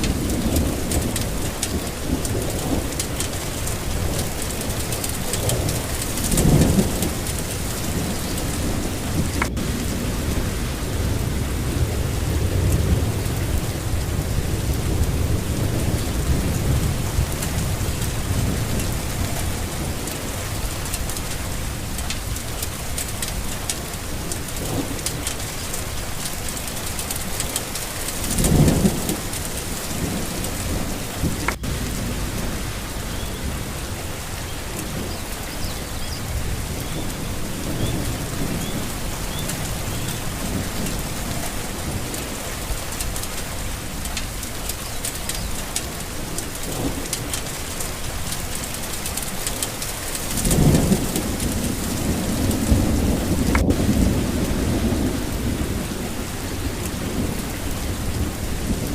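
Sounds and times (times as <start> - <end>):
low thunder rumbling: 0.0 - 58.9
steady rain falling: 0.0 - 58.9.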